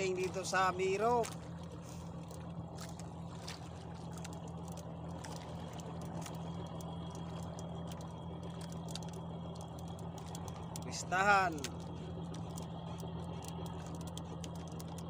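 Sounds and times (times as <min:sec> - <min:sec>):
boat engine droning: 0:00.0 - 0:15.0
faint clicks and taps: 0:01.2 - 0:15.0.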